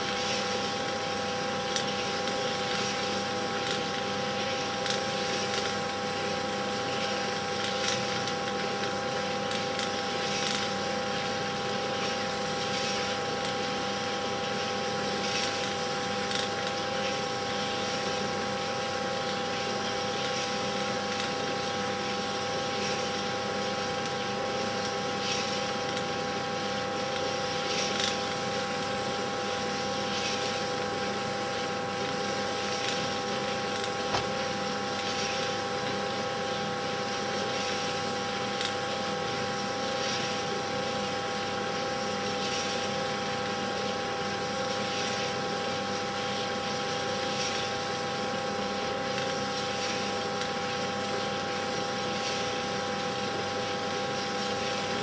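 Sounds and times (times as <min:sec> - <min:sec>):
machine whirring hum and hiss: 0:00.0 - 0:55.0.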